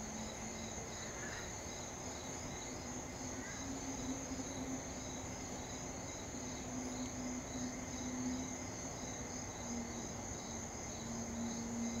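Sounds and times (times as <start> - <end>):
crickets chirping: 0.0 - 12.0
insects trilling: 0.0 - 12.0.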